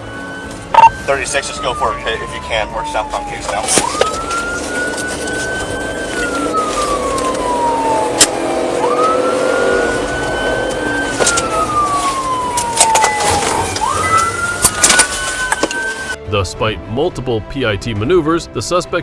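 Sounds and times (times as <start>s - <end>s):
engine and road noise: 0.0s - 16.2s
police siren wailing: 0.0s - 16.2s.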